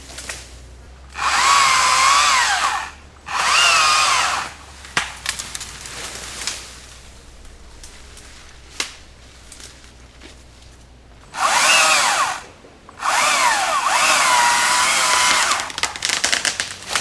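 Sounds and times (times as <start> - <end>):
chainsaw idling: 0.0 - 17.0
chainsaw revving and cutting: 0.0 - 17.0
wood snapping and cracking: 0.0 - 17.0.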